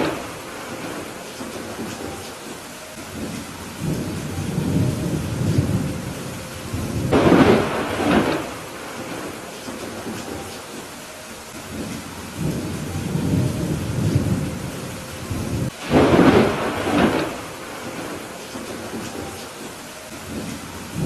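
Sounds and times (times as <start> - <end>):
thunder crack: 0.0 - 11.0, 11.7 - 21.0
steady rain falling: 0.0 - 21.0
thunder rumbling: 0.0 - 21.0.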